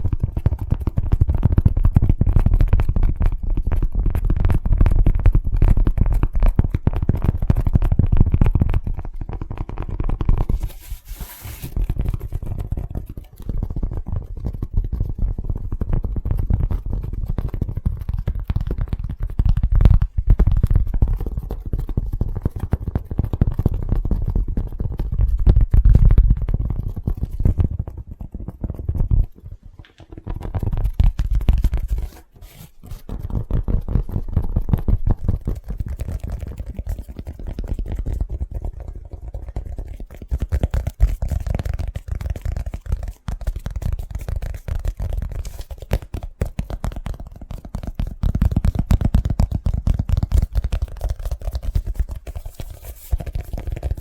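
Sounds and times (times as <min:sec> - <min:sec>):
fast finger tapping: 0:00.0 - 0:54.0.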